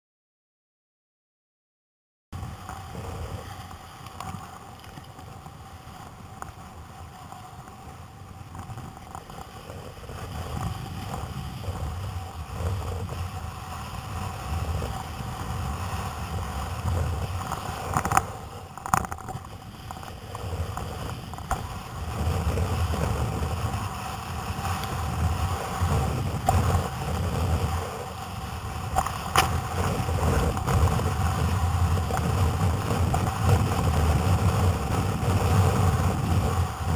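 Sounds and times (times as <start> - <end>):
wind buffeting microphone: 2.4 - 36.9.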